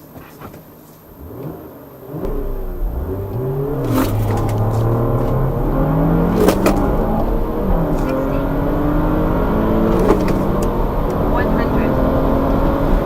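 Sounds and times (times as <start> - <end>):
car engine accelerating: 1.1 - 13.0.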